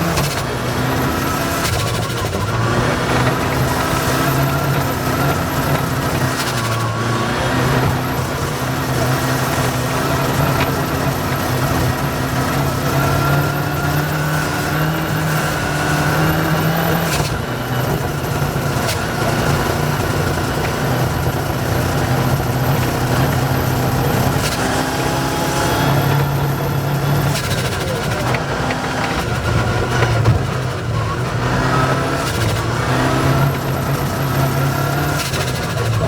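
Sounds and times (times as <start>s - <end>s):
rally car engine running: 0.0s - 36.0s.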